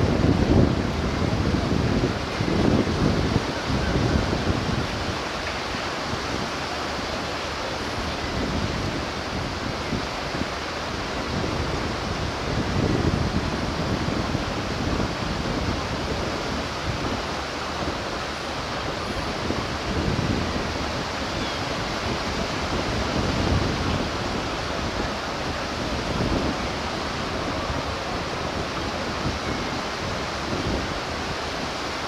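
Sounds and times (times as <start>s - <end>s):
surf rushing: 0.0s - 32.0s
wind: 0.0s - 32.0s.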